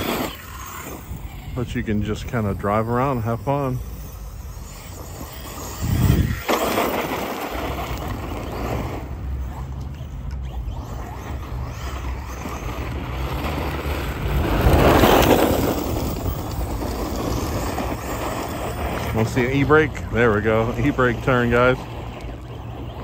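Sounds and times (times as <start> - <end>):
toy truck electric motor: 0.0 - 23.0
tyre noise on gritty asphalt: 0.0 - 23.0.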